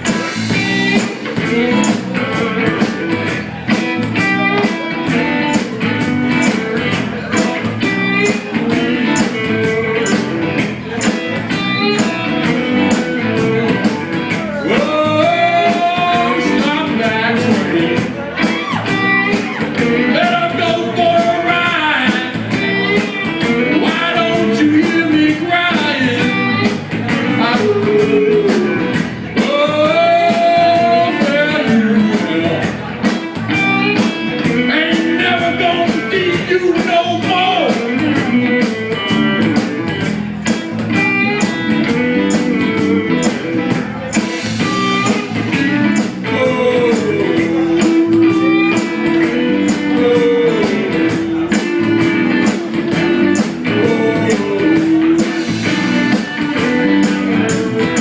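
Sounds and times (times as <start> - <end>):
drum beat: 0.0 - 58.0
electric guitar: 0.0 - 58.0.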